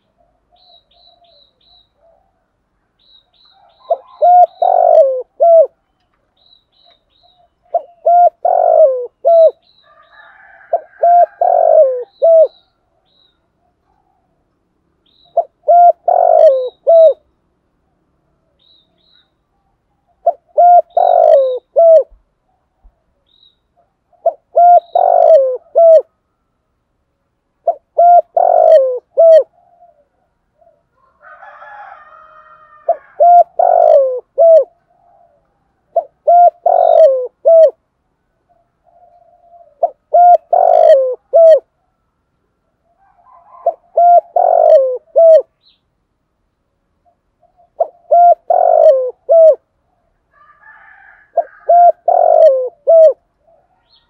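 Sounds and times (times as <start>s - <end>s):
dove cooing: 0.0s - 2.5s, 3.4s - 5.8s, 7.2s - 14.4s, 15.2s - 17.3s, 19.5s - 26.2s, 27.6s - 37.8s, 38.4s - 42.0s, 42.8s - 45.7s, 47.0s - 54.0s.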